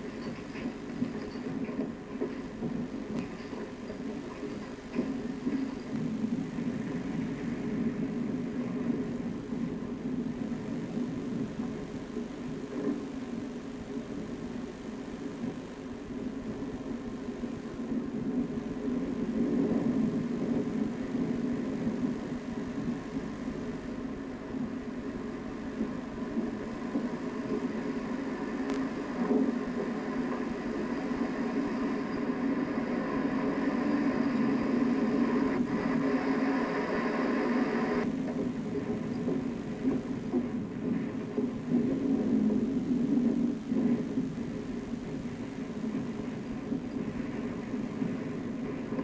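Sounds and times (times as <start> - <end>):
low rumble of running machinery: 0.0 - 49.0.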